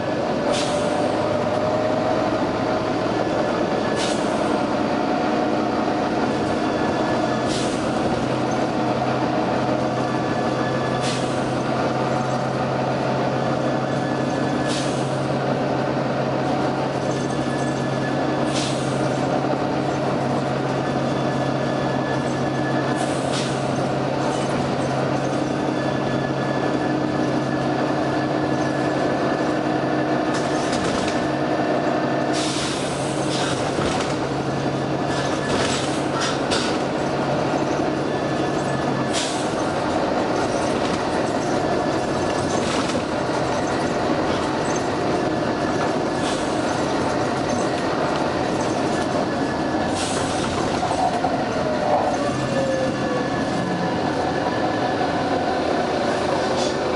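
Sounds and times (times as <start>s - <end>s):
bus engine low hum: 0.0s - 56.9s.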